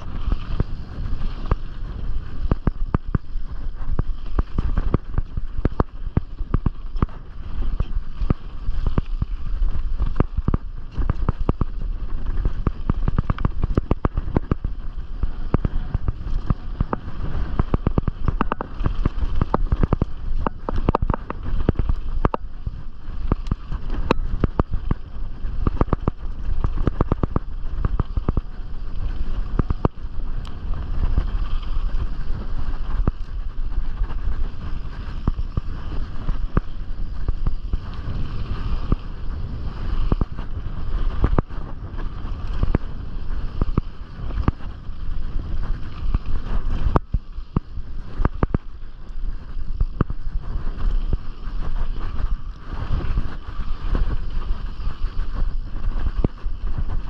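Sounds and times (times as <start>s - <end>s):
bike clattering over rough ground: 0.0s - 57.0s
wind rumble on microphone: 0.0s - 57.0s.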